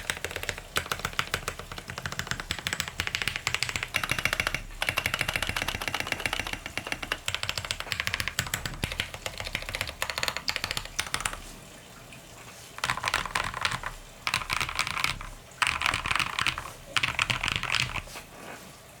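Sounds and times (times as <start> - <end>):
mechanical keyboard typing: 0.0 - 11.5, 12.8 - 18.1.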